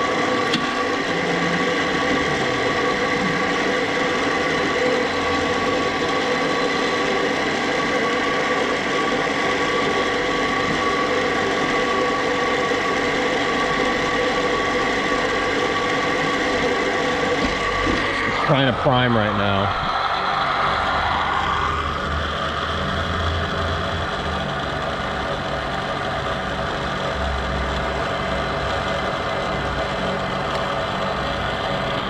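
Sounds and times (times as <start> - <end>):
pump motor whining: 0.0 - 32.0.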